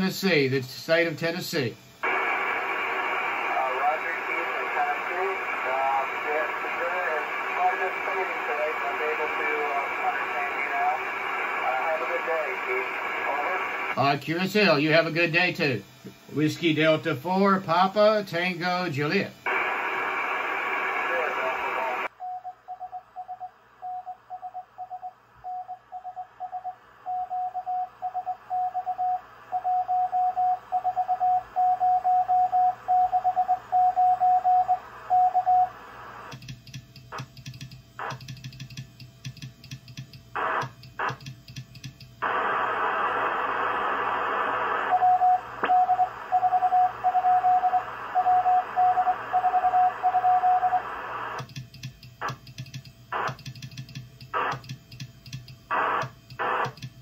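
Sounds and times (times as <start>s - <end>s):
radio static crackle and hiss: 0.0s - 22.2s, 26.3s - 36.4s, 37.0s - 38.4s, 40.2s - 51.5s, 52.1s - 52.4s, 53.0s - 57.0s.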